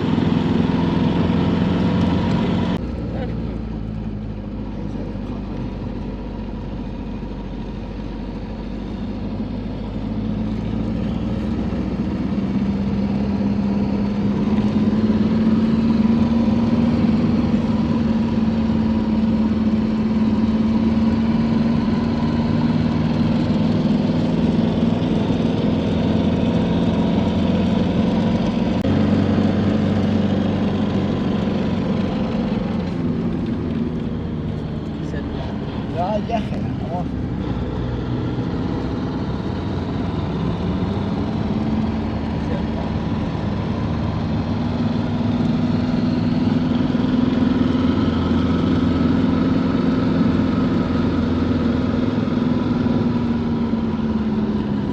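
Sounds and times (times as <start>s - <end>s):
truck engine driving: 0.0s - 54.9s.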